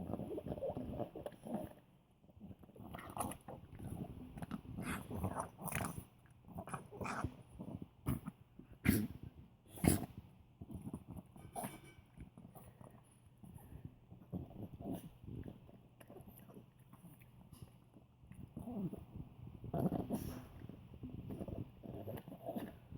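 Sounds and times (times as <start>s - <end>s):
dog eating with pig-like noises: 0.0s - 22.9s.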